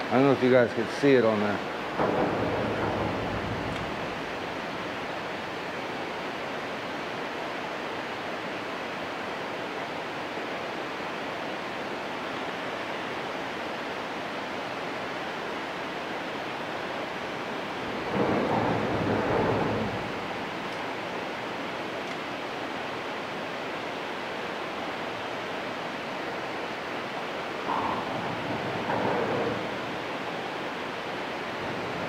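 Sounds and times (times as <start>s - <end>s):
water rushing over dam spillway: 0.0s - 32.0s.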